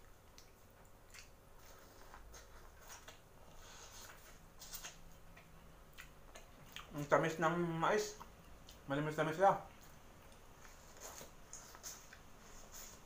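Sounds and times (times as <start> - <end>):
person chewing corn: 0.0 - 8.9, 9.7 - 13.0.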